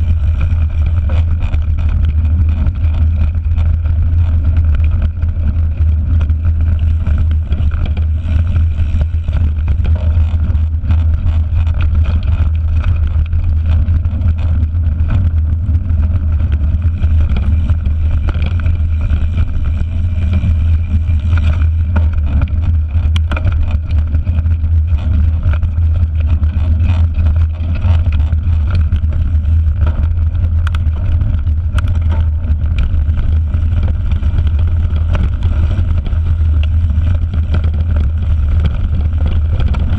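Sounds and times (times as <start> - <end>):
bike clicks: 0.0 - 39.9
bike trail vibration rumble: 0.0 - 39.9
wind buffeting microphone: 0.0 - 39.9.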